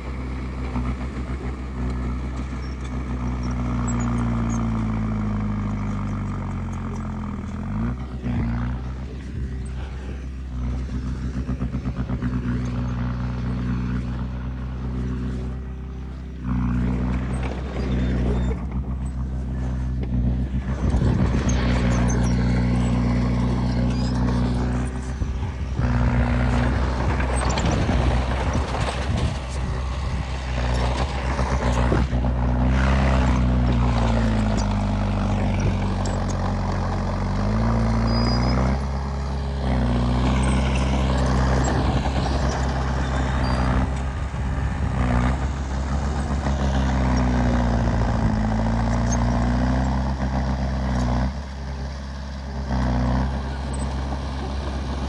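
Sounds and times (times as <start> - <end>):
heavy diesel engines straining: 0.0 - 55.0.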